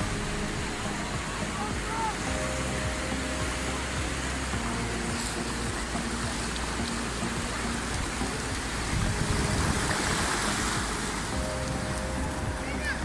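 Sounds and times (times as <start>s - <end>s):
sea surf: 0.0s - 13.0s
wind: 0.0s - 13.0s.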